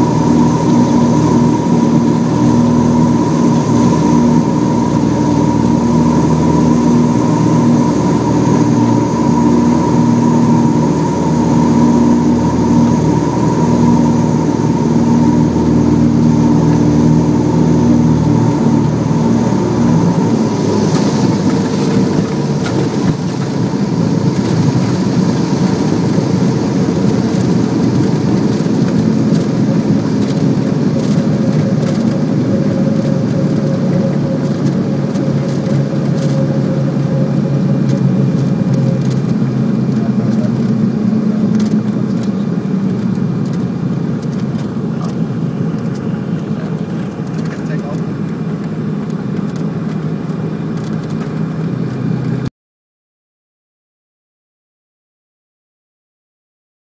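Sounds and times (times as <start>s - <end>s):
aircraft engines droning hum: 0.0s - 52.5s
aircraft rolling on runway rumble: 0.0s - 52.5s.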